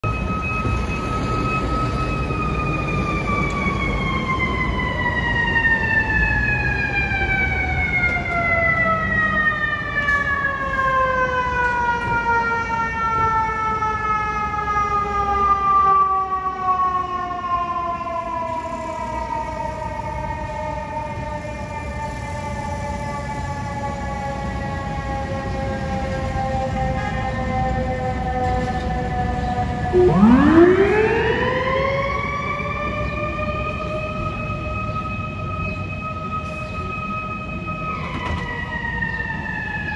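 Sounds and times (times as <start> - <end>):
fire engine siren wailing: 0.0 - 39.9
street traffic rumble: 0.0 - 39.9.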